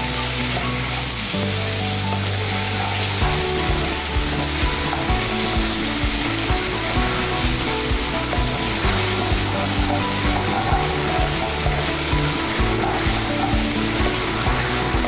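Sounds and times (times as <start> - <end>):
potato frying in hot oil: 0.0 - 15.0
wooden spatula scraping: 2.5 - 15.0.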